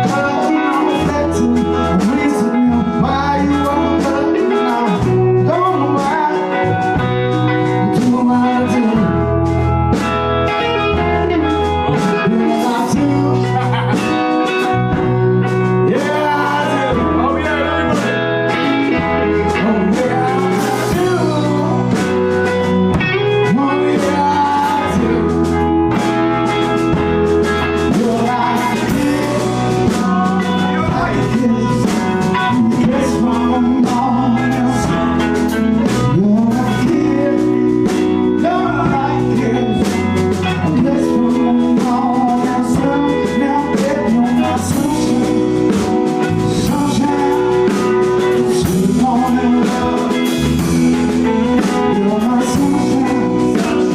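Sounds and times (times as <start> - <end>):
blues-rock band playing: 0.0 - 53.9
person singing: 0.0 - 53.9.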